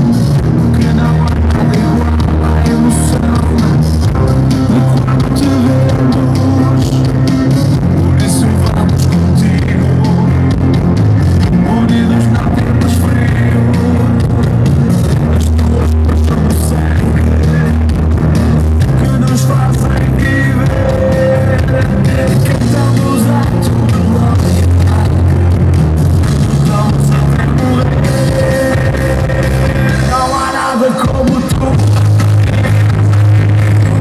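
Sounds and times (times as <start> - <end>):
loud music with heavy bass: 0.0 - 34.0.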